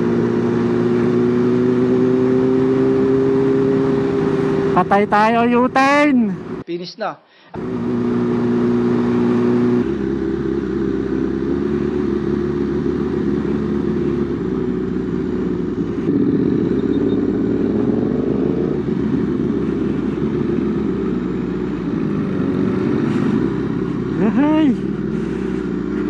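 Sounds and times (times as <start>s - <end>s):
motorcycle engine revving: 0.0s - 6.7s, 7.6s - 26.0s.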